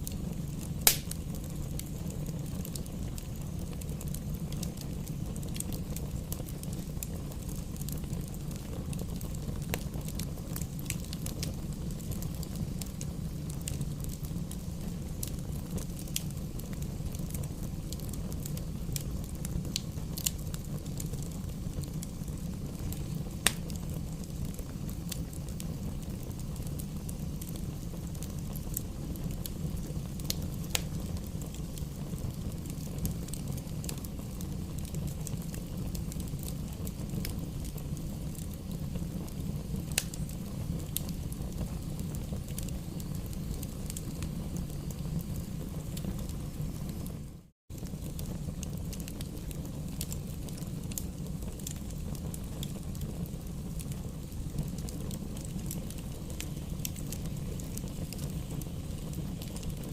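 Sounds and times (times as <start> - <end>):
burning logs crackling and popping: 0.0 - 59.9
flame rumbling in fireplace: 0.0 - 59.9.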